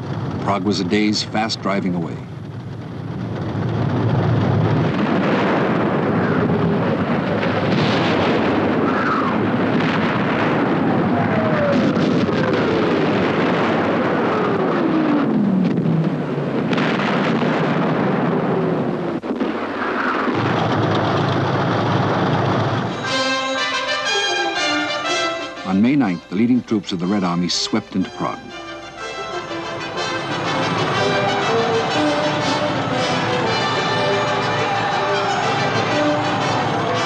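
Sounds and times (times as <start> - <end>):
rumble of explosions: 0.0 - 37.0.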